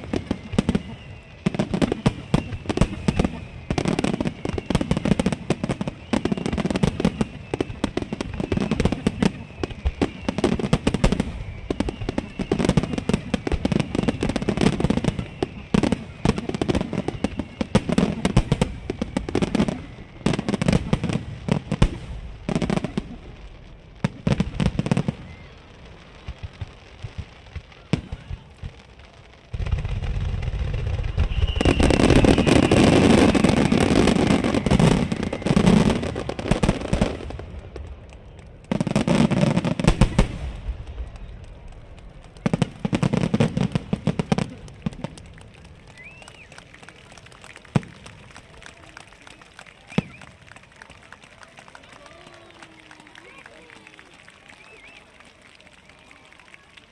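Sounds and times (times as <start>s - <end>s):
fireworks bangs and crackle: 0.0s - 56.9s.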